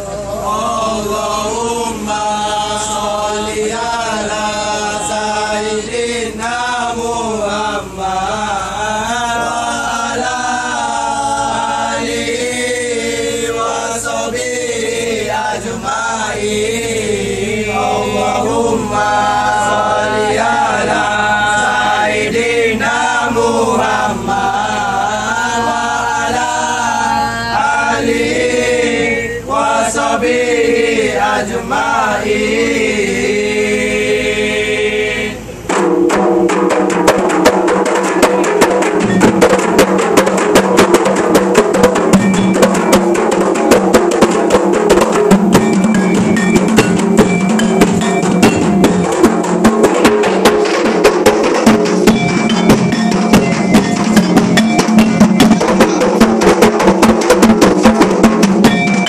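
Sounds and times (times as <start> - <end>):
men chanting in unison: 0.0 - 35.7, 37.5 - 58.8.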